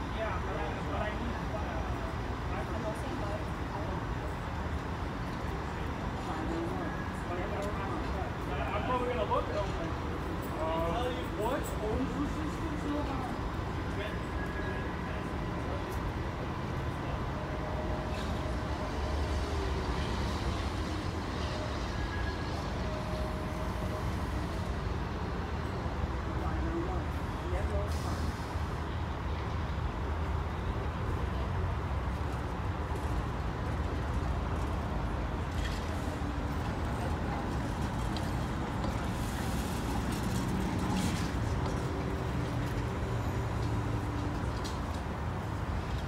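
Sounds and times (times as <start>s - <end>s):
streetcar low rumble: 0.0s - 46.0s.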